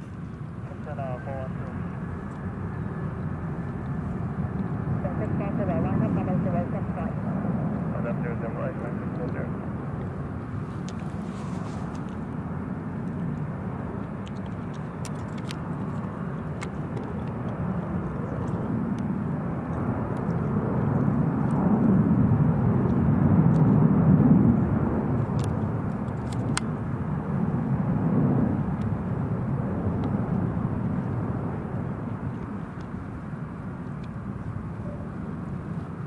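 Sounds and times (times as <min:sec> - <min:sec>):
distant jet engine rumble: 0:00.0 - 0:36.0.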